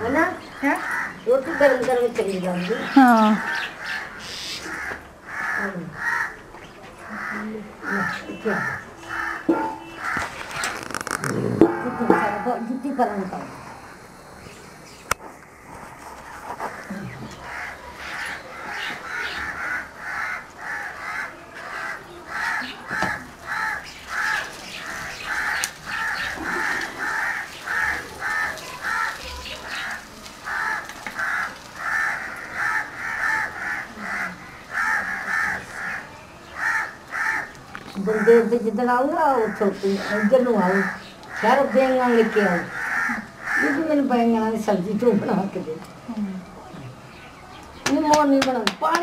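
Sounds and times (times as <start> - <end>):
crows cawing: 0.1 - 14.0, 16.2 - 45.4.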